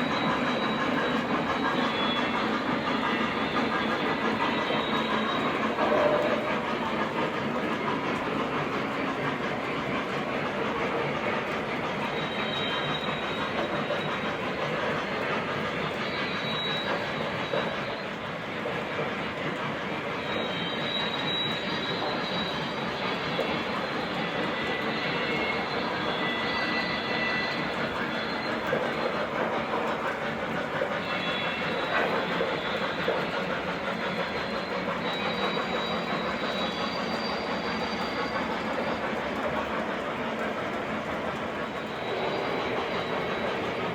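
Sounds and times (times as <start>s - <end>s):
faint high squeals: 0.0s - 9.0s, 9.7s - 41.0s, 41.6s - 43.9s.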